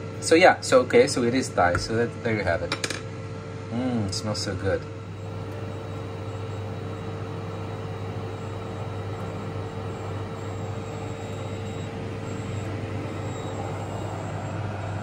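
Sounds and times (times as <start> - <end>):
motor hum with high whine: 0.0 - 15.0.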